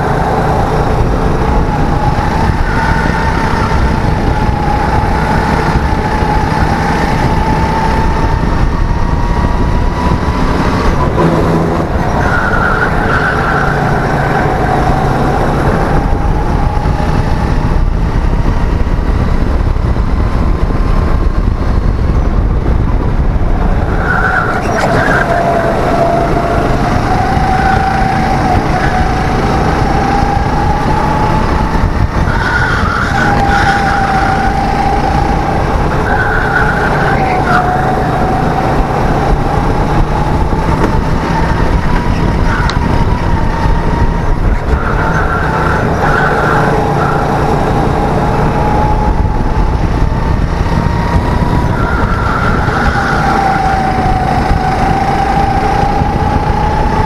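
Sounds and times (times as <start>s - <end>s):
go-kart engine revving: 0.0s - 57.0s
heavy rumble: 0.0s - 57.0s.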